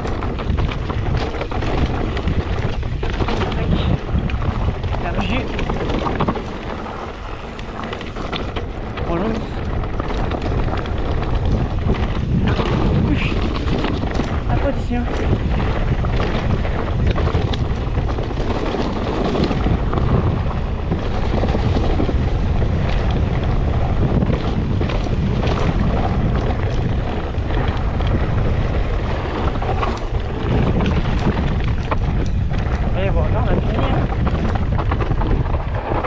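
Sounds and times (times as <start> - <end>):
bike rattling over rough ground: 0.0 - 36.0
wind rumbling on camera: 0.0 - 36.0.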